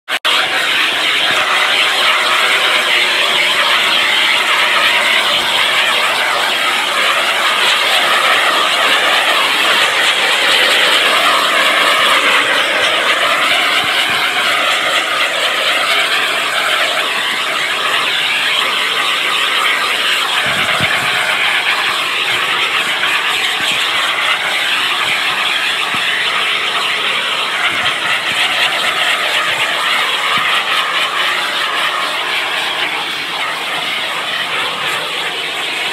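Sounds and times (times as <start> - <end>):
heat gun roaring hiss: 0.3 - 35.9.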